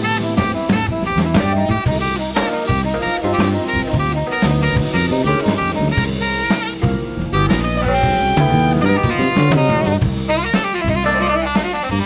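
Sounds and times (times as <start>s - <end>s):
drum kit: 0.0s - 12.0s
electric bass: 0.0s - 12.0s
saxophone lead: 0.0s - 12.0s.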